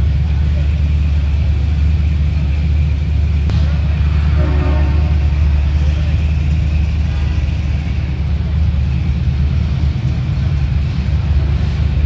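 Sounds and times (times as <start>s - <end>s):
car engine at low speed: 0.0s - 12.0s.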